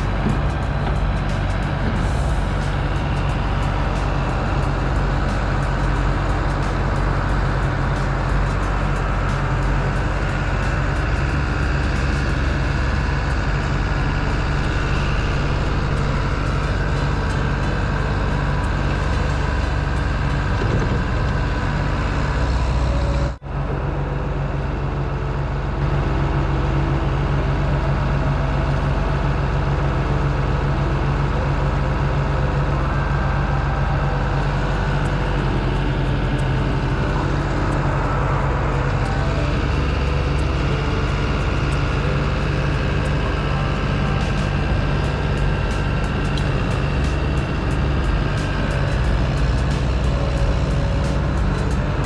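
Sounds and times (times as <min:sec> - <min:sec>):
skid steer diesel engine running: 0:00.0 - 0:52.0.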